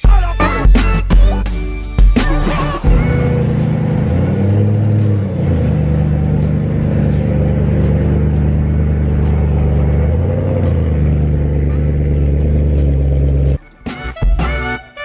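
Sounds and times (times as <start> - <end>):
music: 0.0 - 15.0
car engine idling: 1.4 - 13.8.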